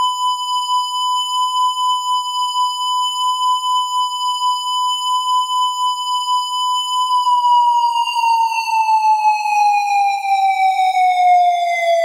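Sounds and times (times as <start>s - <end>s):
warning siren tone: 0.0s - 12.0s.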